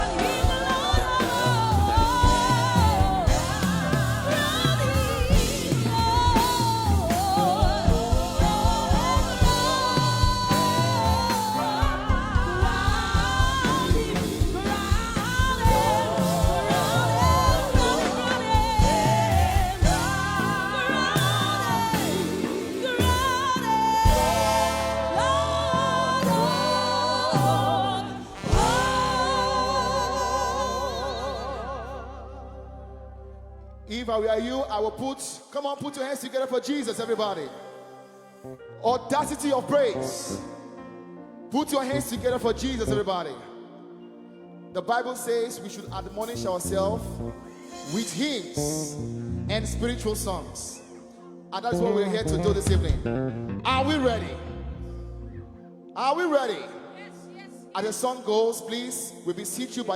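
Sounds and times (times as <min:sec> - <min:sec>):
gospel singers with vibrato: 0:00.0 - 0:59.9.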